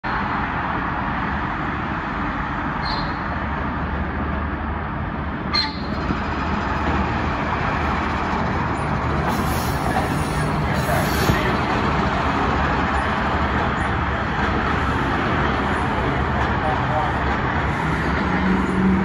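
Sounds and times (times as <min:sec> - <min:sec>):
highway traffic roar: 0:00.0 - 0:19.0
train approaching on tracks: 0:00.1 - 0:19.0.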